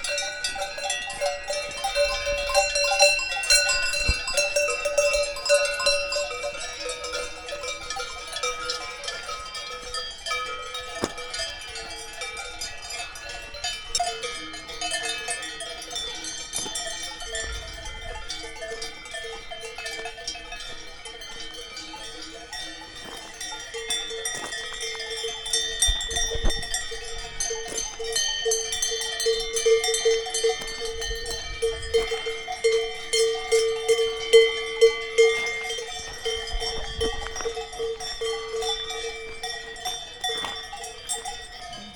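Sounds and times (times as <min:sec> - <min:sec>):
cow bells clanking: 0:00.0 - 0:41.9.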